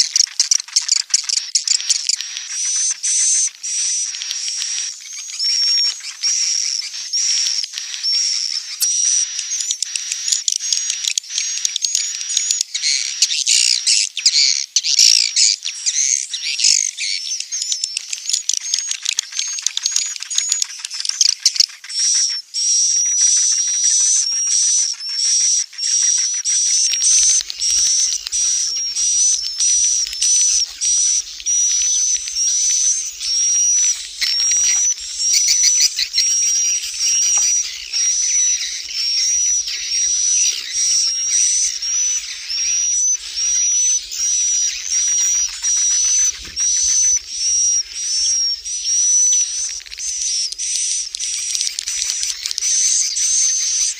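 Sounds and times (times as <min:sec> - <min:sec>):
swiftlet twittering calls: 0:00.0 - 0:53.9.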